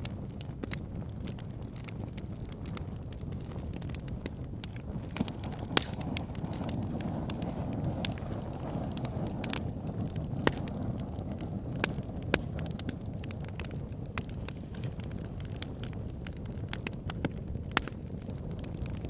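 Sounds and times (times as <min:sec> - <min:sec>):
fire flames rumbling: 0:00.0 - 0:19.0
logs crackling and popping: 0:00.0 - 0:19.0.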